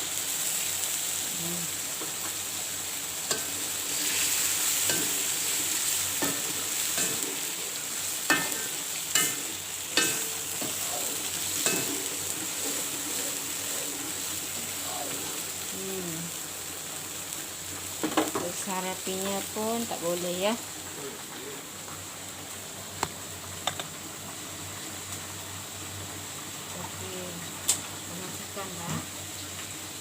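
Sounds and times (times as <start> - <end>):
cooking hiss: 0.0 - 30.0.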